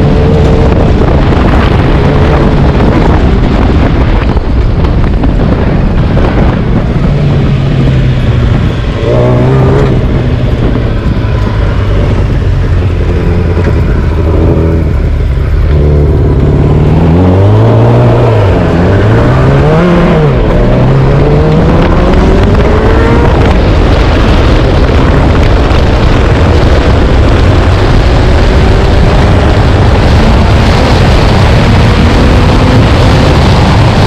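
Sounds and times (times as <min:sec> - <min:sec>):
motorcycle engine accelerating: 0:00.0 - 0:34.0
wind and road noise: 0:00.0 - 0:34.0.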